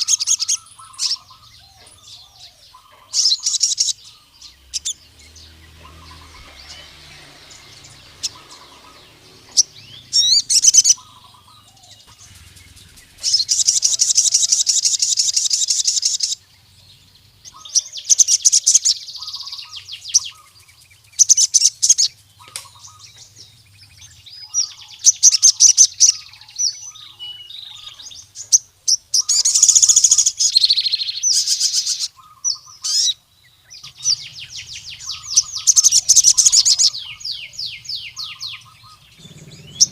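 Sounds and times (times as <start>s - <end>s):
soft bird chirps: 0.0s - 39.9s
sunbird singing high trills: 0.0s - 39.9s.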